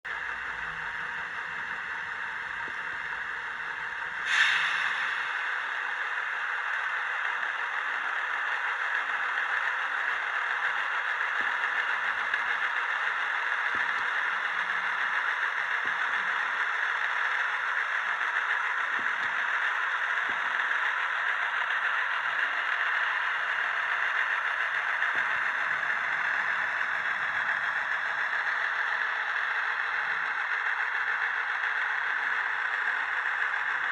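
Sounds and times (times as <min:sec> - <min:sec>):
model diesel engine sound: 0:00.1 - 0:33.9.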